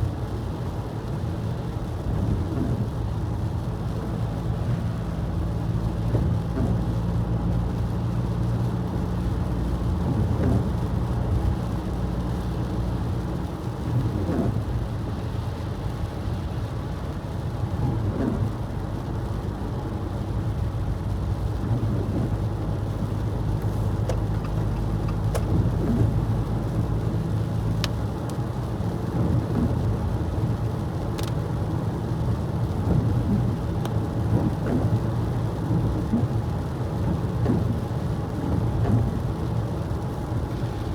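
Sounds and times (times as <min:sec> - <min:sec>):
car engine and tyres on wet road: 0:00.0 - 0:40.9.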